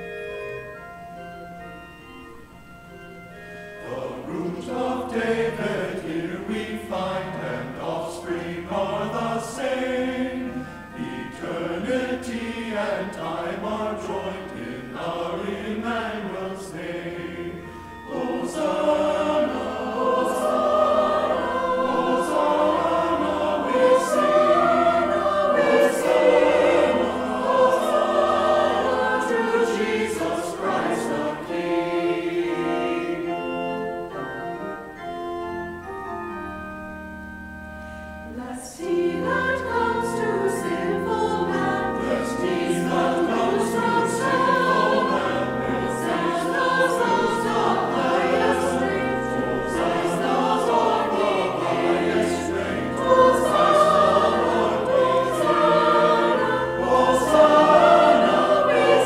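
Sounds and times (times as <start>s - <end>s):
organ accompaniment: 0.0s - 59.0s
choir singing: 3.8s - 35.2s, 38.2s - 59.0s.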